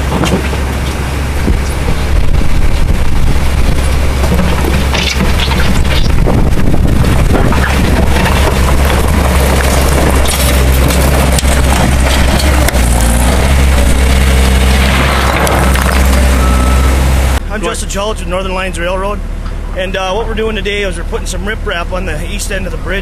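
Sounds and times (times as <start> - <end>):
heavy machine engine rumbling: 0.0 - 23.0.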